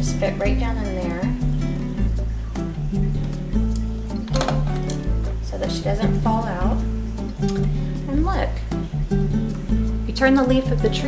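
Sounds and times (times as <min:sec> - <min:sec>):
light background music: 0:00.0 - 0:11.0.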